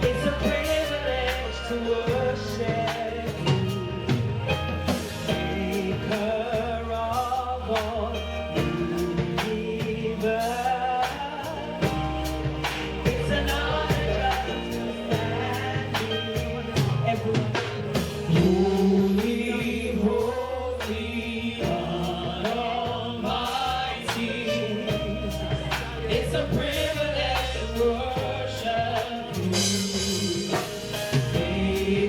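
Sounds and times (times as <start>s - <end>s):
band with bass and drums: 0.0s - 32.0s
group singing: 0.0s - 32.0s.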